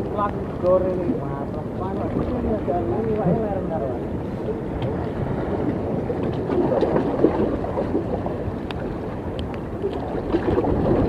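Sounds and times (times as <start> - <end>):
sea washing against rocks: 0.0 - 11.0
wind on microphone: 0.0 - 11.0.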